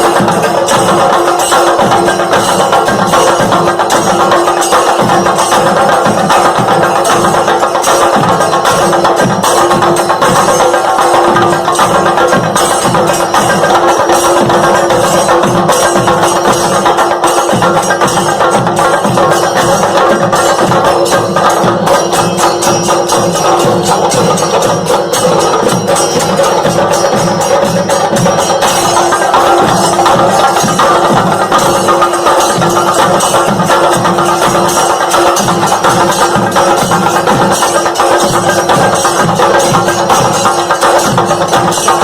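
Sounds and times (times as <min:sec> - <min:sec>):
music with rapid percussion: 0:00.0 - 0:42.0.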